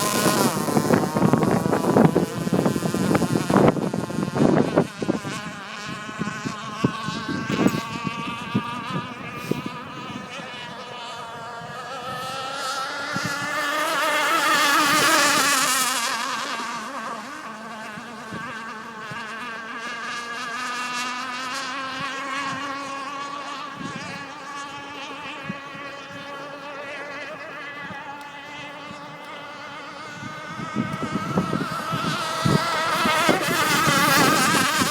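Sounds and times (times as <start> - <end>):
rc racing boat engine buzzing: 0.0 - 34.9.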